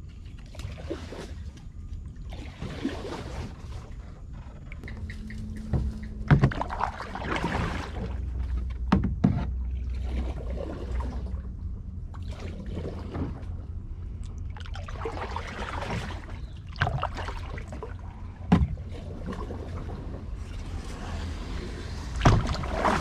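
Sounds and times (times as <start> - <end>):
kayak paddle swishing through water: 0.0 - 8.8, 9.4 - 11.5, 12.1 - 13.6, 14.6 - 23.0.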